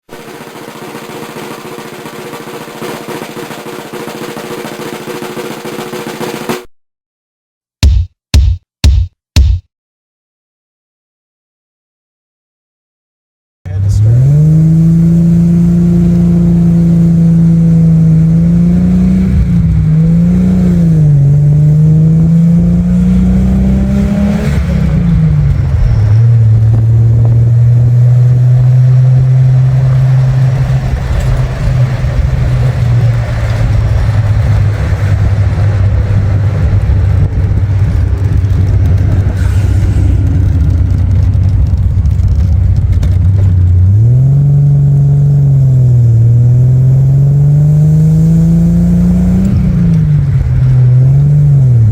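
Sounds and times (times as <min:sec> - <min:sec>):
car engine accelerating: 0:00.0 - 0:06.7, 0:13.7 - 0:51.9.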